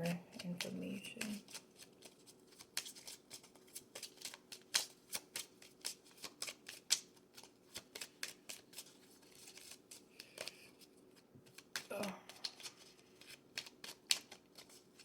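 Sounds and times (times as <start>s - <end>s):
cards being shuffled: 0.2s - 15.0s.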